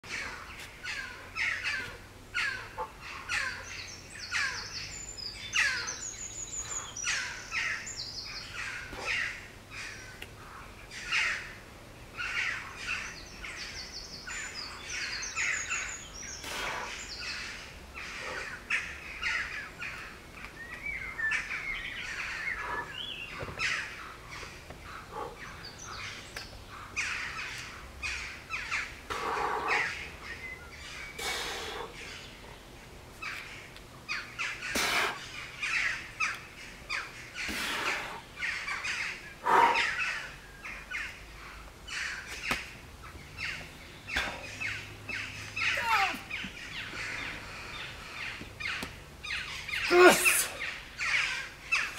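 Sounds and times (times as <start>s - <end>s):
birds singing and calling: 0.0s - 51.9s.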